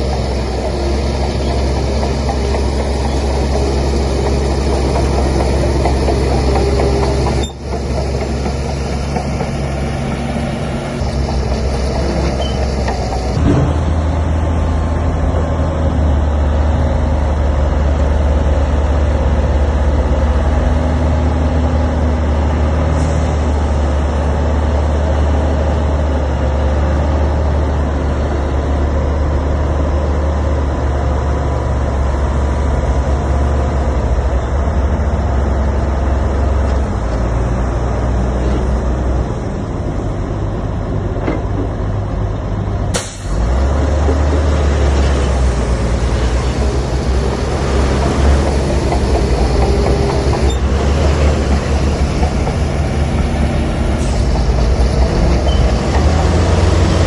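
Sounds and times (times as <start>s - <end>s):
heavy diesel machinery droning: 0.0s - 57.0s.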